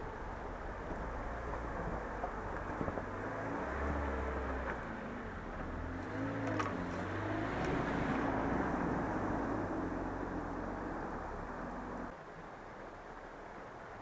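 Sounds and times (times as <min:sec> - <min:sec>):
engine revving: 0:00.9 - 0:12.1.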